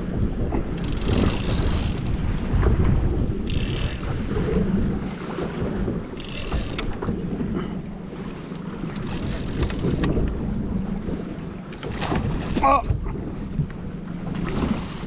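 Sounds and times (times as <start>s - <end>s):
water splashing: 0.0s - 15.0s
wind buffeting microphone: 0.0s - 15.0s.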